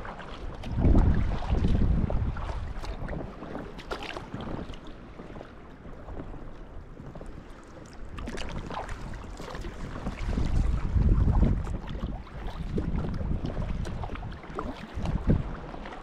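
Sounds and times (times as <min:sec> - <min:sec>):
paddle splashing in water: 0:00.0 - 0:16.0
water washing against kayak hull: 0:00.0 - 0:16.0
wind rumble on microphone: 0:00.0 - 0:16.0.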